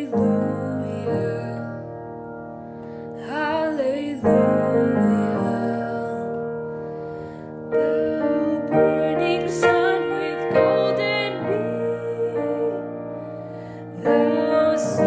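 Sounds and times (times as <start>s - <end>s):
woman singing: 0.0s - 2.1s, 3.2s - 6.8s, 7.4s - 15.0s
grand piano playing hymn: 0.0s - 15.0s.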